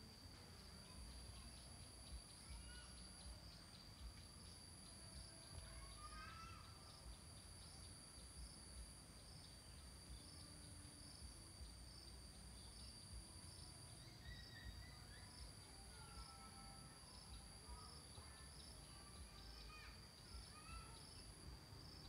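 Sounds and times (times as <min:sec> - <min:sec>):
high insect trill: 0:00.0 - 0:22.0.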